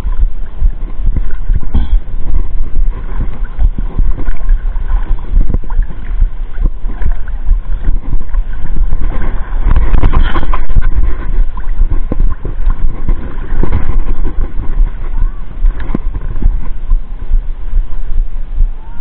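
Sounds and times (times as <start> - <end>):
sea water lapping and splashing: 0.0 - 18.1
wind buffeting microphone: 0.0 - 19.0.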